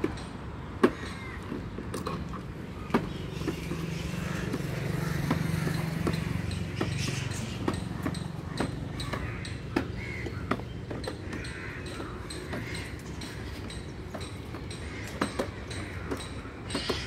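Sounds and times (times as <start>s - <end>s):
wheels clicking over brick joints: 0.0s - 17.0s.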